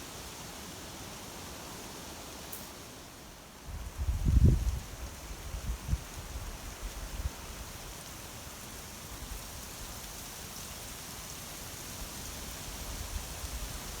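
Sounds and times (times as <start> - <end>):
leaves rustling in wind: 0.0 - 14.0.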